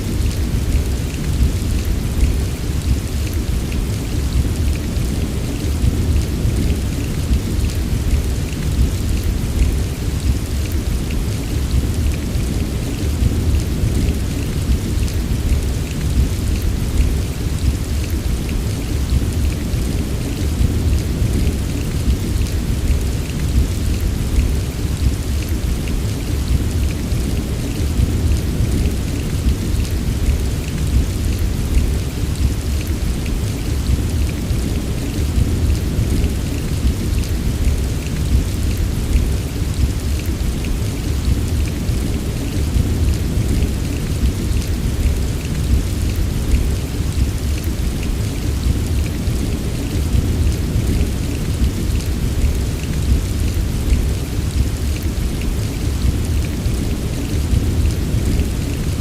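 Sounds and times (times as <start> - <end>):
heavy rain: 0.0 - 59.0
rain drop ticks: 0.0 - 59.0.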